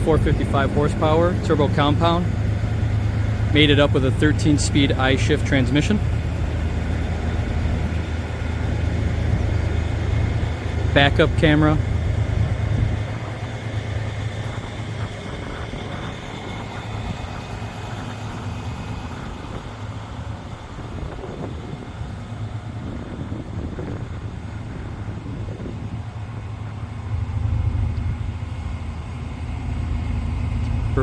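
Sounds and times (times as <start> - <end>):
truck diesel engine idling: 0.0 - 31.0.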